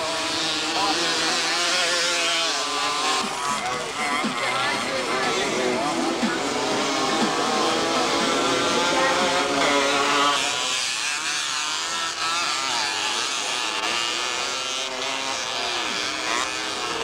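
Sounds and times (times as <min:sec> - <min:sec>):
motocross engines racing: 0:00.0 - 0:17.0.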